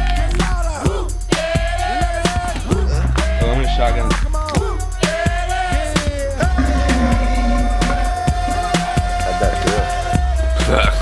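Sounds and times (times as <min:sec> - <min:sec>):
hip hop music: 0:00.0 - 0:11.0.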